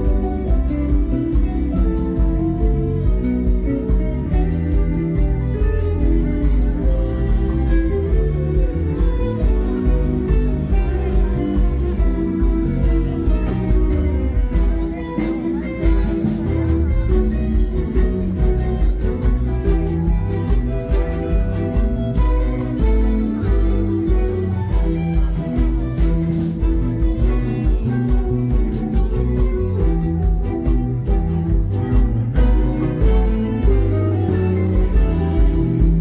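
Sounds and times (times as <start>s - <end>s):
drum kit: 0.0s - 36.0s
string orchestra playing: 0.0s - 36.0s.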